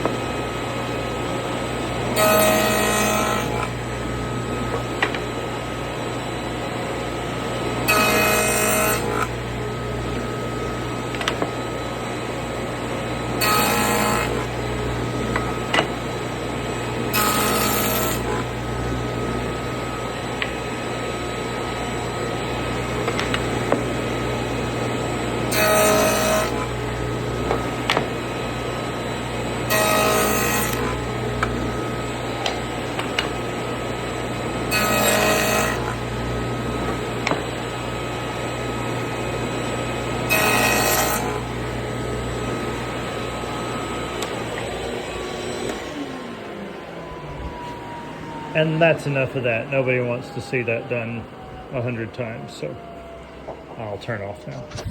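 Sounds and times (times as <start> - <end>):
table saw running: 0.0 - 54.9
saw cutting wood: 1.4 - 5.5, 7.3 - 52.1.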